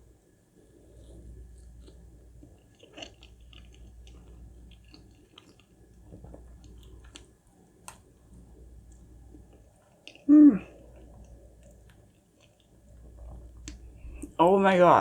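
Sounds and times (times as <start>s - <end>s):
wet chewing: 0.9s - 14.3s.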